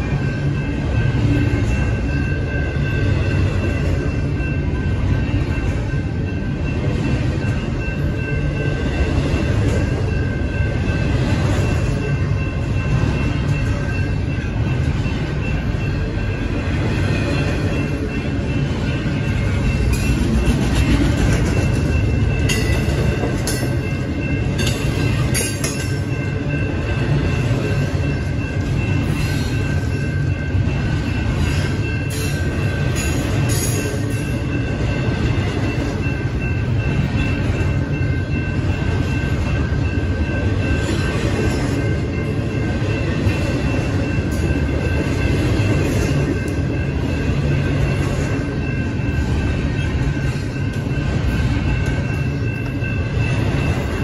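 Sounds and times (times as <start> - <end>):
crossing bell ringing: 0.0 - 54.0
freight train wheels rumbling: 0.0 - 54.0.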